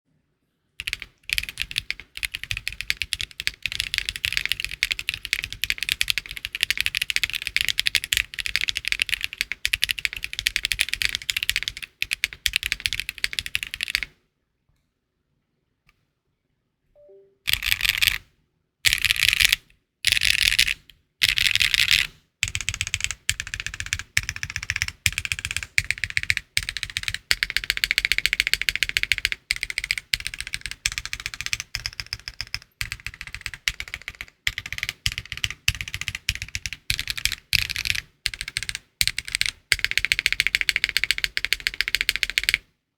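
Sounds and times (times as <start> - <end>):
mechanical keyboard typing: 0.8 - 14.1, 17.5 - 18.2, 18.9 - 42.6.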